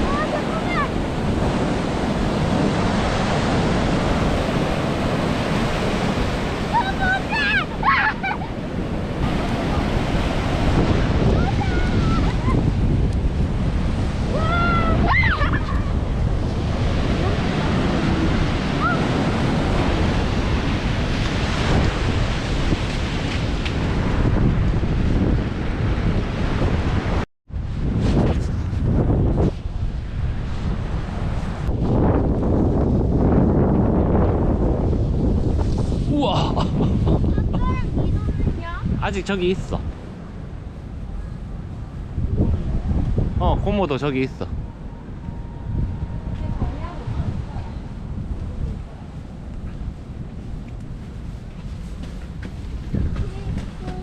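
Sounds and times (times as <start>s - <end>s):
sea surf washing onto beach: 0.0s - 54.0s
wind buffeting microphone: 0.0s - 54.0s.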